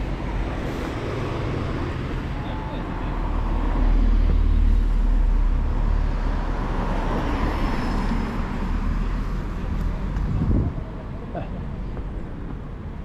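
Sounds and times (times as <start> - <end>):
steady street noise: 0.0 - 13.0.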